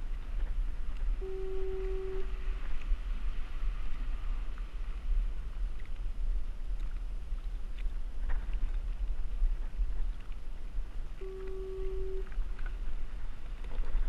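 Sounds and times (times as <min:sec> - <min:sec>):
water against hull: 0:00.0 - 0:14.0
wind buffeting microphone: 0:00.0 - 0:14.0
faint ticks: 0:00.4 - 0:03.0, 0:03.8 - 0:14.0.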